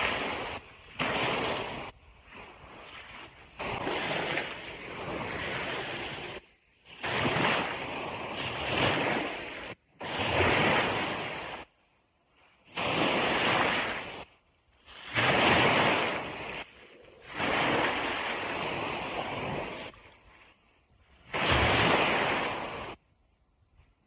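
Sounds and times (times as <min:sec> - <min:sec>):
ocean waves breaking on beach: 0:00.0 - 0:24.0.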